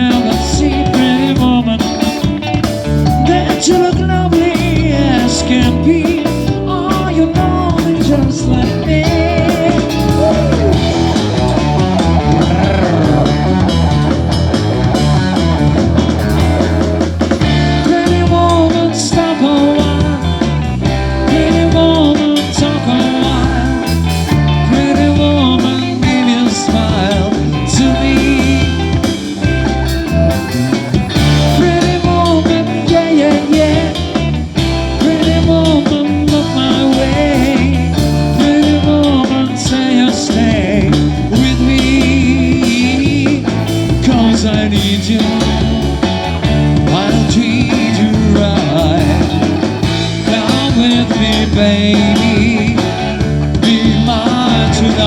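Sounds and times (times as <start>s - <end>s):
live rock and roll band: 0.0s - 55.0s.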